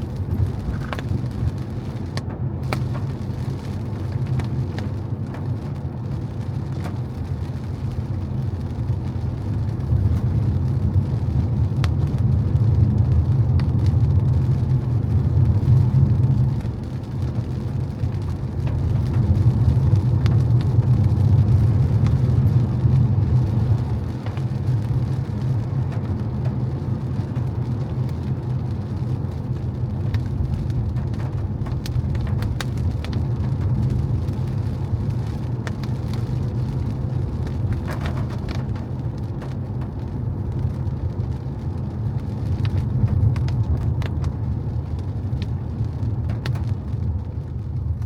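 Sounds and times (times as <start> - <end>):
car road and engine rumble: 0.0 - 48.0
light ticks of rain: 0.0 - 48.0.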